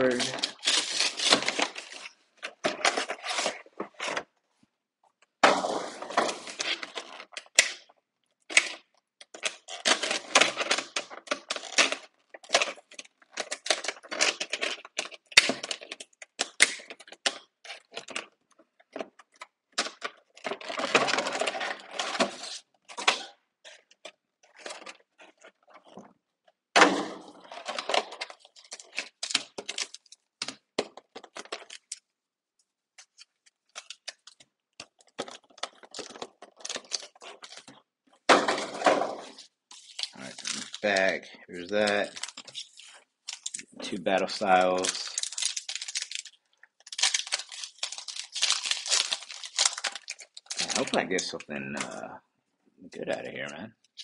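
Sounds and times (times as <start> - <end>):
packaging crinkling and tearing: 0.0 - 4.3, 8.5 - 26.0, 27.2 - 32.1, 33.0 - 52.0.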